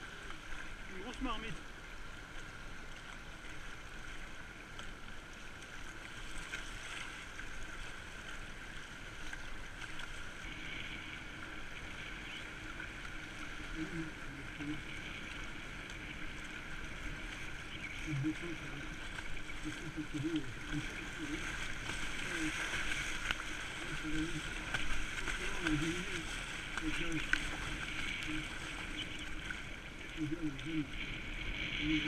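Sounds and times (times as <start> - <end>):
river water rushing and splashing: 0.0 - 32.0.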